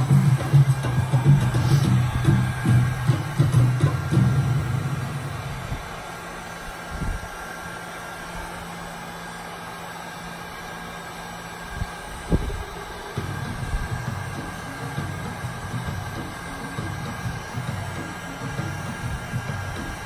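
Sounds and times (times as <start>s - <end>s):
heat gun fan whirring: 0.0s - 20.0s.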